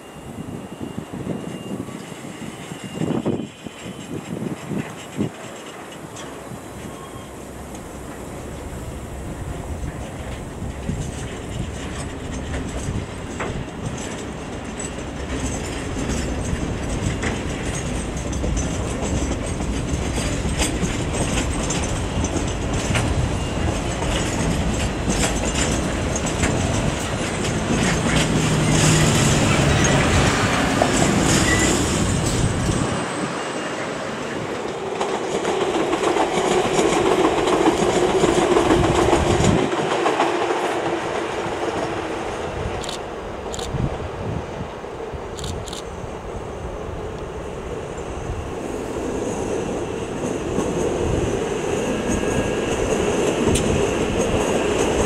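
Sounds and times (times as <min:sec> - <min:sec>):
freight train wheels clattering: 0:01.4 - 0:43.7, 0:47.7 - 0:55.0.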